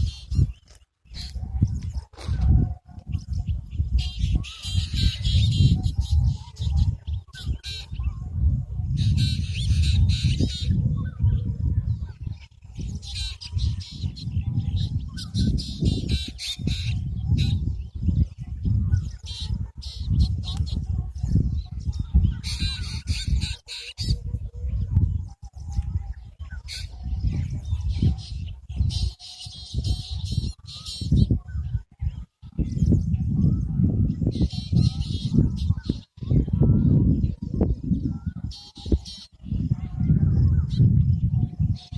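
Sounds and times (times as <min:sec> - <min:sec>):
birds chattering: 0:00.0 - 0:11.2, 0:12.3 - 0:24.8, 0:25.7 - 0:31.6, 0:32.2 - 0:36.5, 0:37.2 - 0:41.9.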